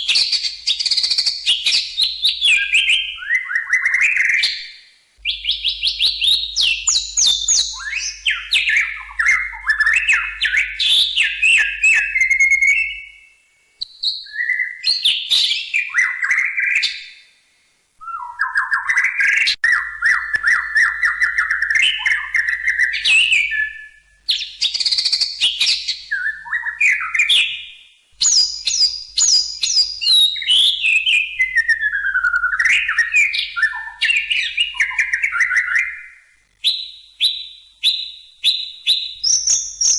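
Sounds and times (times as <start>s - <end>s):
songbird whistling and chipping: 0.0s - 17.2s, 18.0s - 39.9s.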